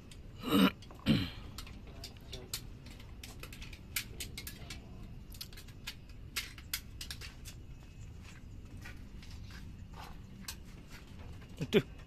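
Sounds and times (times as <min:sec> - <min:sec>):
hand tools clicking and tapping: 0:00.0 - 0:12.0.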